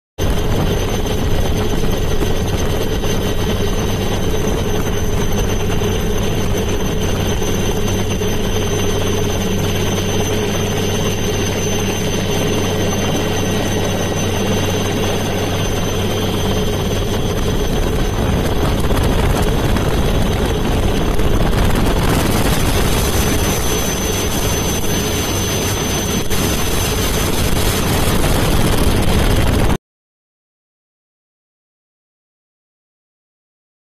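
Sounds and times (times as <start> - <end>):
helicopter turbine and rotor drone: 0.2 - 29.8.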